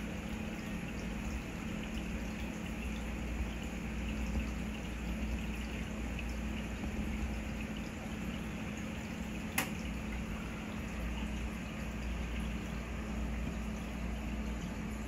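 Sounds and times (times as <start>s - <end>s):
low pump hum: 0.0s - 15.0s
water trickling: 0.0s - 15.0s.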